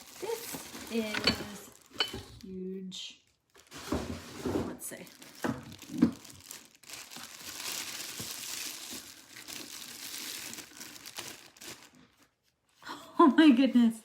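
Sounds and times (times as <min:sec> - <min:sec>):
packaging crinkling and rustling: 0:00.0 - 0:02.6, 0:03.2 - 0:12.7.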